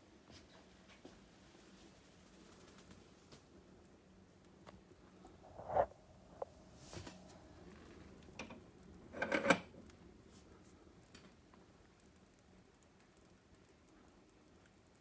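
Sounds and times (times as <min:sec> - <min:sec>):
wood fire crackling behind door: 0:00.0 - 0:15.0.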